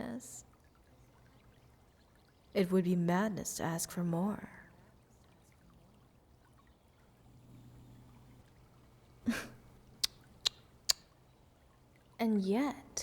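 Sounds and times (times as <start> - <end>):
faint flowing water: 0.0 - 13.0.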